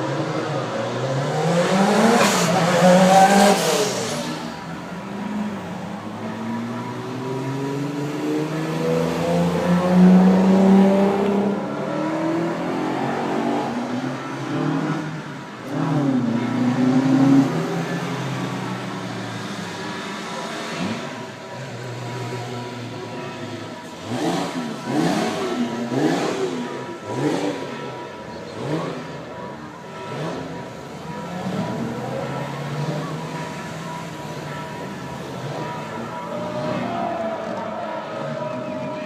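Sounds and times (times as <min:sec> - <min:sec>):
car engines accelerating: 0:00.0 - 0:39.0.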